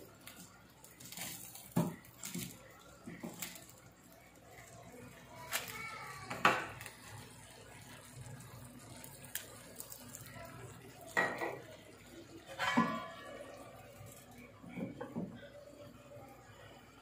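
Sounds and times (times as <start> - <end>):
hot charcoal sizzling: 0.0 - 17.0.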